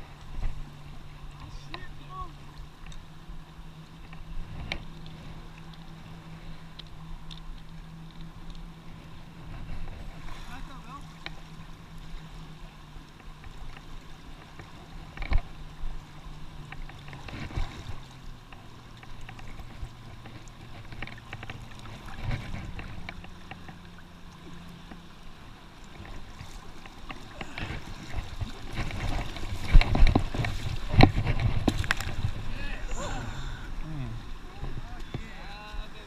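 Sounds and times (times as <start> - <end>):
low steady hum: 0.0 - 36.0
river water splashing: 0.0 - 36.0.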